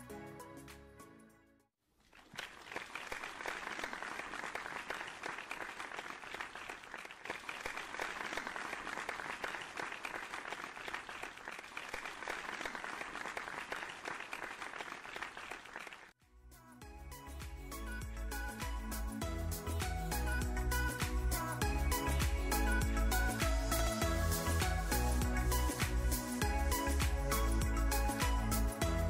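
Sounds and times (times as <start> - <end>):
crowd clapping: 2.0 - 16.2, 19.8 - 29.0.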